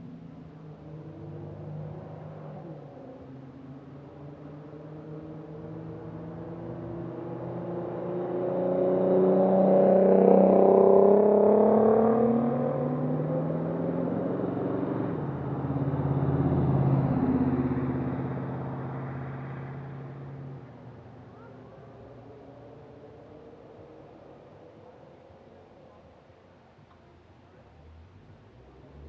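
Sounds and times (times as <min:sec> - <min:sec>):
vehicles driving past: 0:00.0 - 0:25.9, 0:27.5 - 0:29.0.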